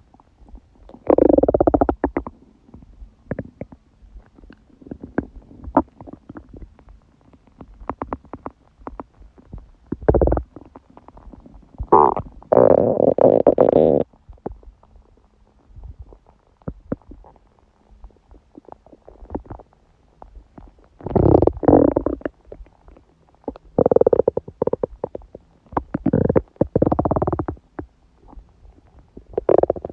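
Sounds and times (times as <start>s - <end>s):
stomach growling and gurgling: 0.0s - 29.9s.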